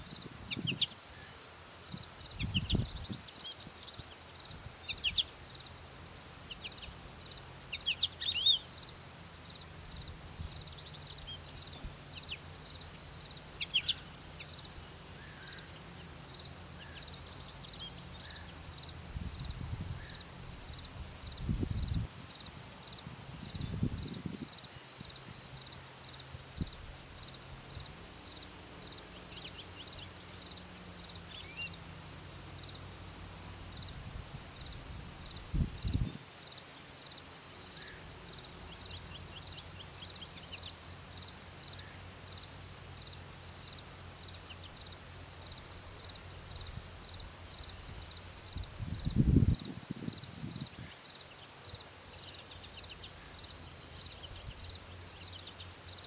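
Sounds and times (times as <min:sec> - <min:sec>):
insects chirping rhythmically: 0:00.0 - 0:56.0.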